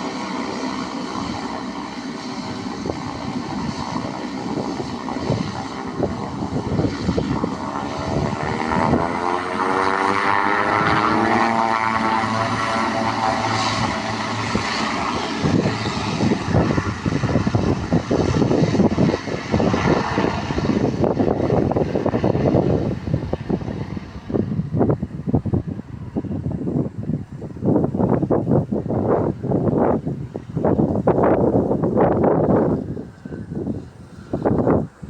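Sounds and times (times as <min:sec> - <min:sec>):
turboprop engines whining: 0:00.0 - 0:35.0
wind buffeting microphone: 0:00.0 - 0:35.0.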